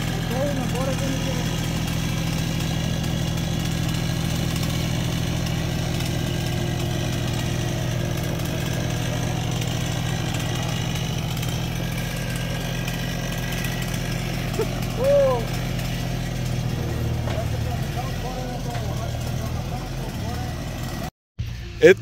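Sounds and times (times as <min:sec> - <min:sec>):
loader engine running steadily: 0:00.0 - 0:22.0.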